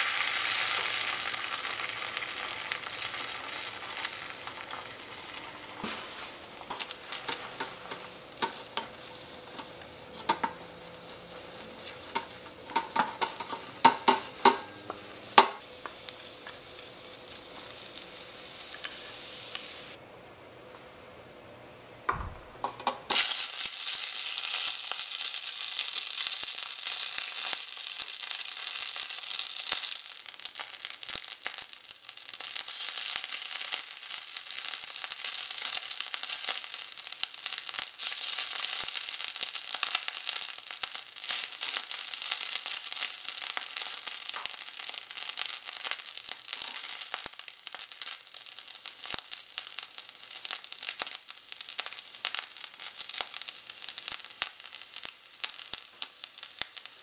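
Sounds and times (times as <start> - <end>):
hot oil sizzling: 0.0 - 20.0, 22.1 - 57.0.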